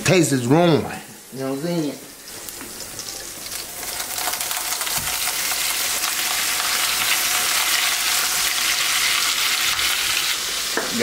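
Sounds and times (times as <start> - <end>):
ground beef sizzling in butter: 1.2 - 11.0.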